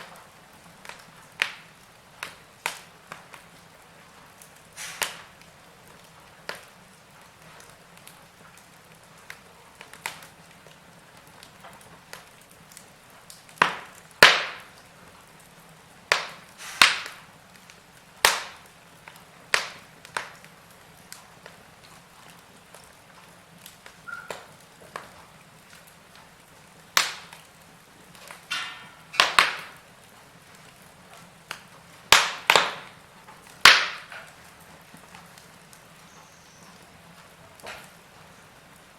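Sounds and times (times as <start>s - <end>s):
soft fire hiss: 0.0s - 38.9s
wood fire crackling and popping: 0.0s - 38.9s.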